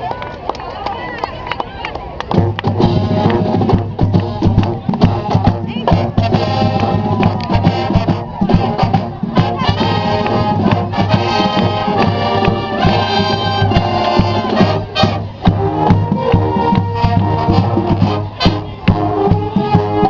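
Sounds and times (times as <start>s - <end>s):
marching band playing: 2.0s - 20.0s.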